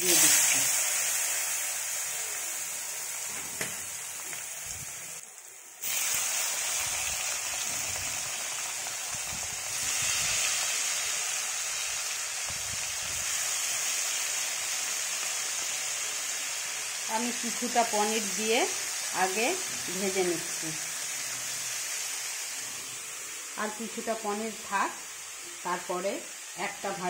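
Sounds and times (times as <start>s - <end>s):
cheese sizzling in hot oil: 0.0s - 27.0s.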